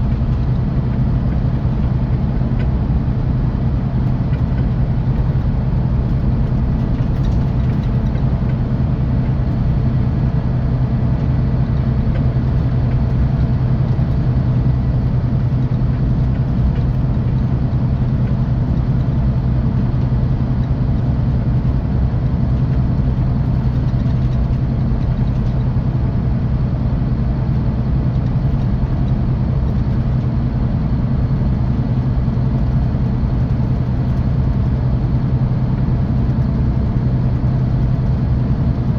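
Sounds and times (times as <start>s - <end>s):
diesel bus engine humming: 0.0s - 38.9s.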